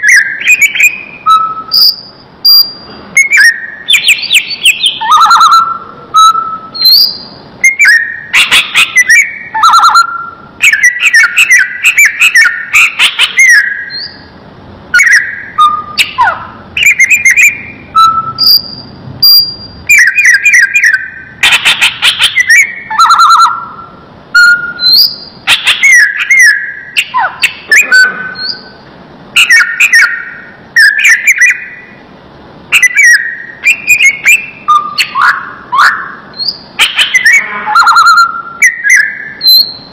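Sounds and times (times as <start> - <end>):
bird chirping and whistling: 0.0 - 14.3, 14.9 - 28.8, 29.4 - 32.0, 32.7 - 39.9.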